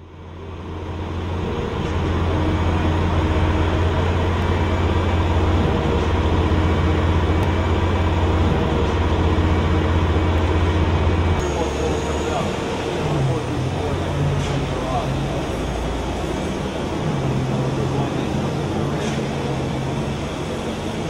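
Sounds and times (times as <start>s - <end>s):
heavy machinery engine droning: 0.0s - 21.0s.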